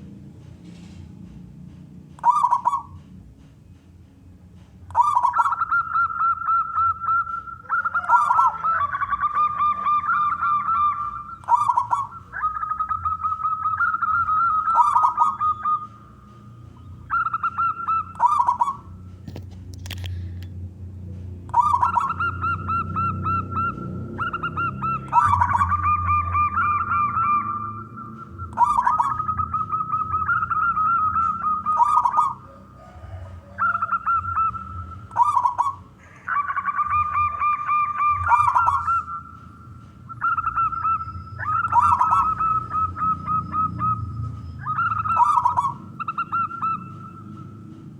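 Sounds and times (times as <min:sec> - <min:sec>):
dove cooing: 0:02.2 - 0:03.1, 0:04.8 - 0:19.2, 0:21.5 - 0:47.9.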